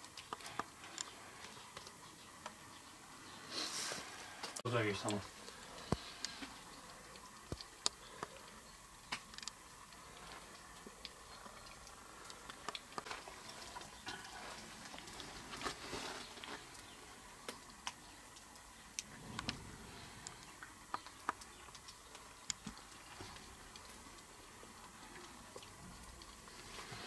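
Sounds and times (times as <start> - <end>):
small clicks and ticks: 0.0 - 2.9, 4.4 - 27.0.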